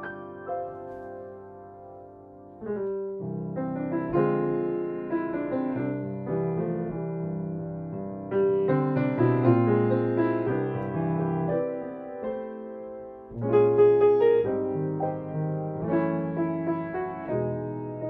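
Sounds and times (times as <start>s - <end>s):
slow jazz piano chords: 0.0s - 18.0s.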